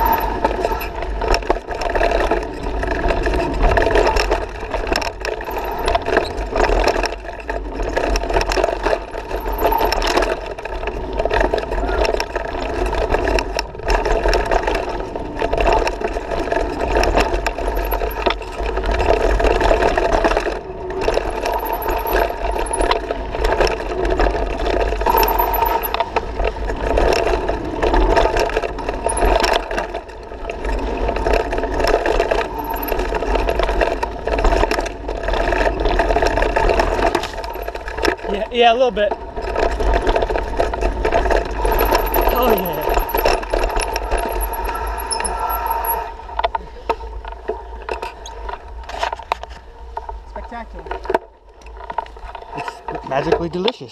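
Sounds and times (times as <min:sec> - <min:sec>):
bike tyre noise on dirt: 0:00.0 - 0:50.8
bike rattling over bumps: 0:00.0 - 0:53.9.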